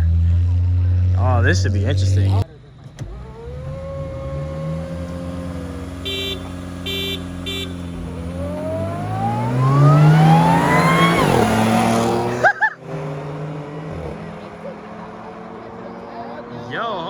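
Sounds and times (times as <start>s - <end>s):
cars idling: 0.0s - 17.0s
engines revving and accelerating: 0.0s - 17.0s.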